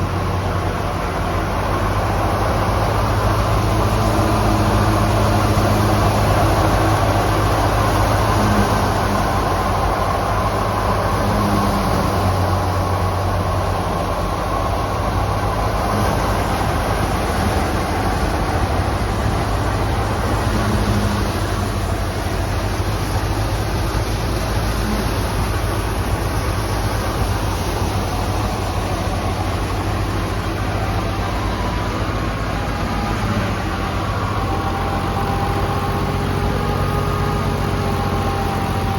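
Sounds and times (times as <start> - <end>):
thresher machine humming: 0.0 - 38.9.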